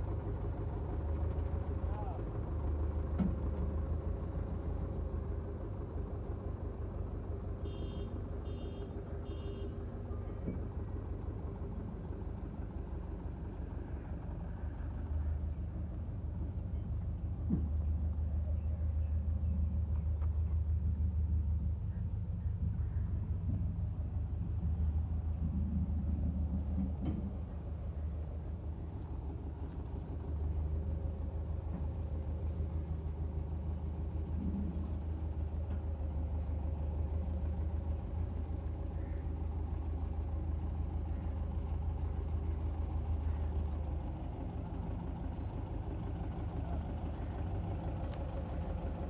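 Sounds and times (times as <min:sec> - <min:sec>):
engine rumbling: 0:00.0 - 0:49.0.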